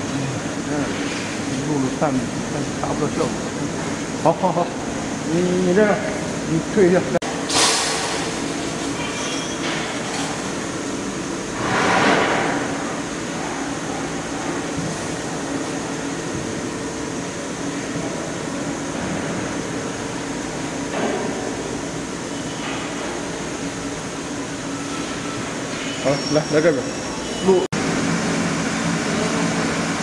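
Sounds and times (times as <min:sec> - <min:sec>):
workshop machinery hum: 0:00.0 - 0:30.0.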